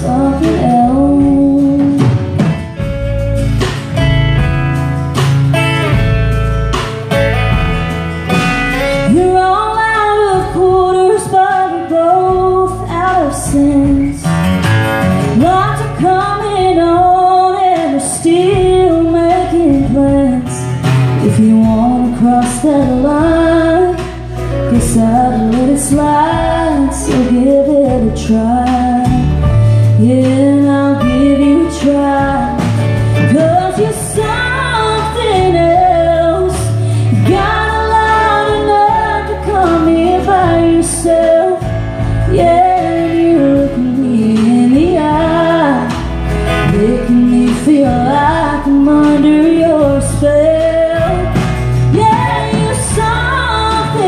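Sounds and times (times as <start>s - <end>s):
woman singing: 0.0s - 3.0s, 8.9s - 14.4s, 15.3s - 54.0s
acoustic guitars: 0.0s - 54.0s
drums: 0.0s - 54.0s.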